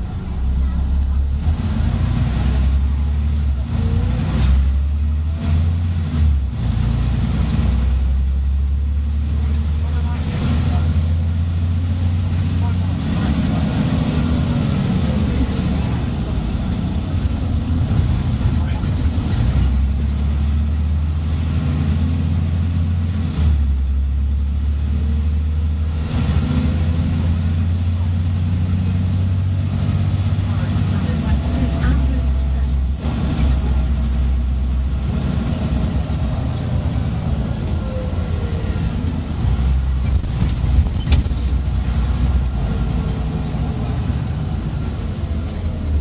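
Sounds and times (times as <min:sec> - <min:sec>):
bus diesel engine drone: 0:00.0 - 0:46.0.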